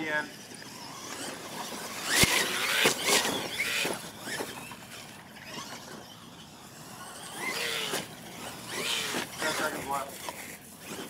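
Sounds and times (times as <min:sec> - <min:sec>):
toy truck motor whining: 0:00.0 - 0:11.0.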